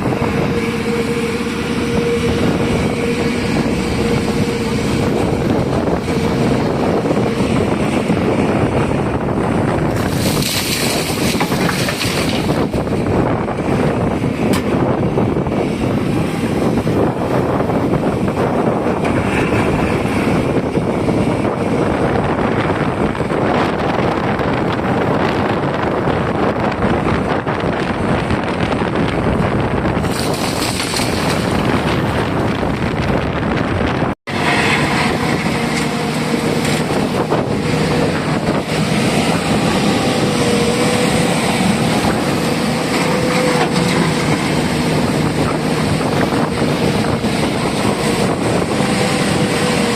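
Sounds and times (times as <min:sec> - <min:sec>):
heavy diesel machinery running: 0:00.0 - 0:49.9
wind buffeting microphone: 0:00.0 - 0:49.9.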